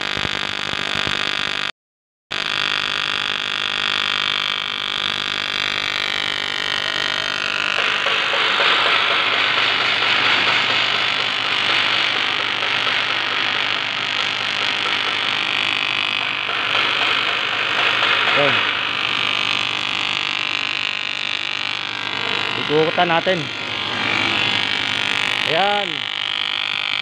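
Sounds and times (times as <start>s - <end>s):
welding arc buzzing: 0.0s - 1.7s, 2.3s - 27.0s.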